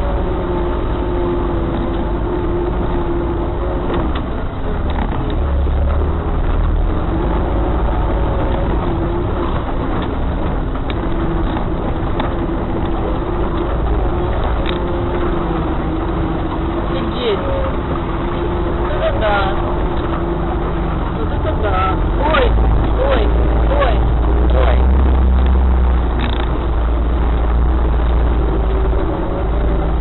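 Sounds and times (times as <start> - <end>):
constant whine: 0.0 - 30.0
vehicle engine rumble: 0.0 - 30.0.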